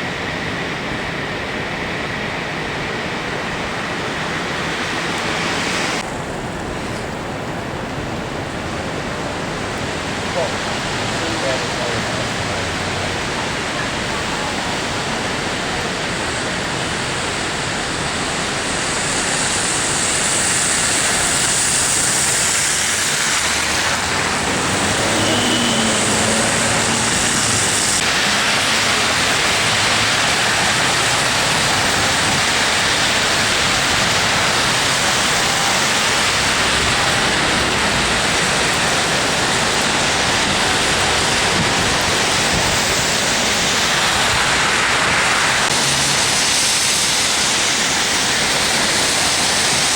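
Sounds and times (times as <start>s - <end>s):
strong wind blowing: 0.0s - 49.9s.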